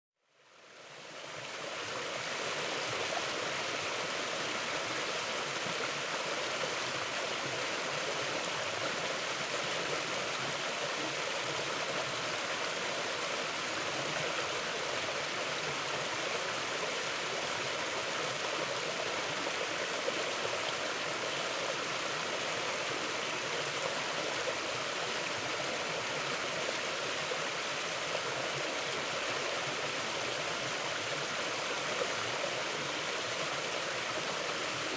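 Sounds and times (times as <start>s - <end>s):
river water rushing: 0.6s - 34.9s.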